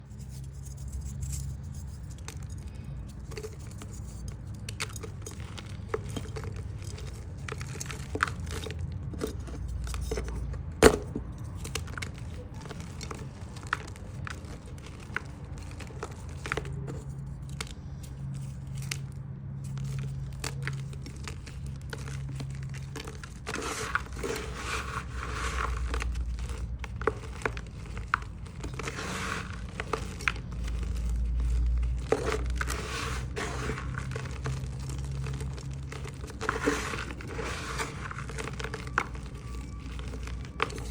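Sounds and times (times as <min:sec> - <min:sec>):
chalk snapping and crumbling: 0:00.1 - 0:40.9.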